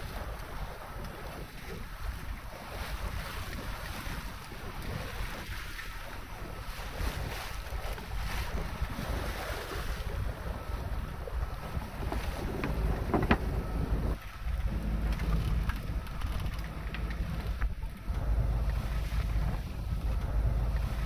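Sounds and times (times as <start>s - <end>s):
water washing along hull: 0.0s - 21.0s
wind buffeting microphone: 0.0s - 21.0s.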